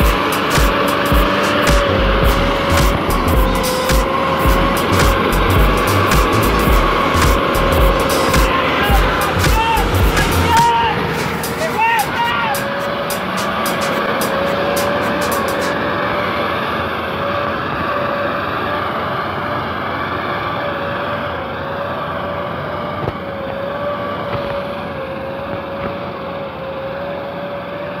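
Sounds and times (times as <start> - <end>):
high wavering whine: 0.0 - 27.8
tracked vehicle engine and tracks: 0.0 - 28.0.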